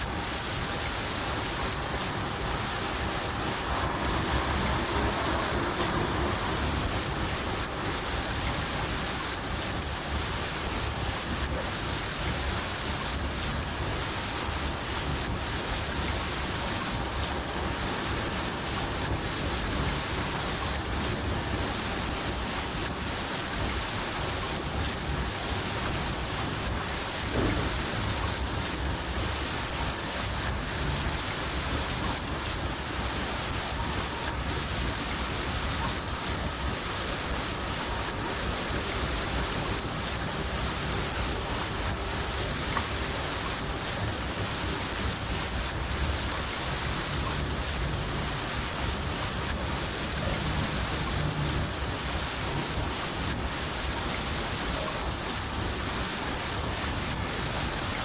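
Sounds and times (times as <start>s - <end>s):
cricket chirping: 0.0s - 58.0s
rain: 0.0s - 58.0s.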